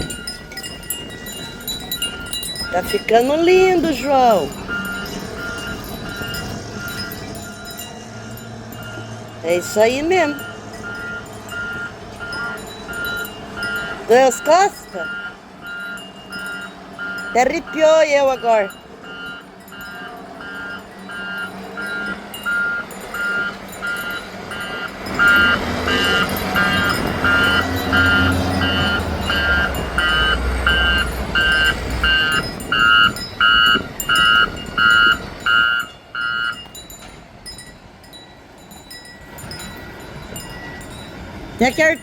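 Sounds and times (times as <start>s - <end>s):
reversing alarm beeping: 0.0s - 37.1s
diesel engine rumble: 0.0s - 42.0s.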